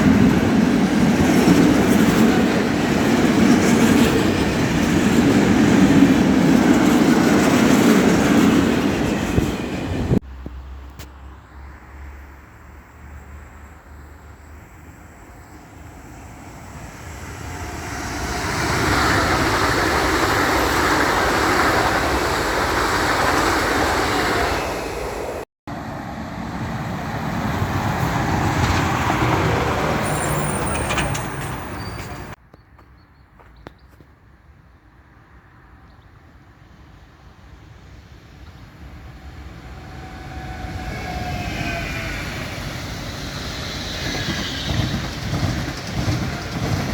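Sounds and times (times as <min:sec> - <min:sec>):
passenger trains passing: 0:00.0 - 0:10.8, 0:11.5 - 0:32.4, 0:34.5 - 0:46.9.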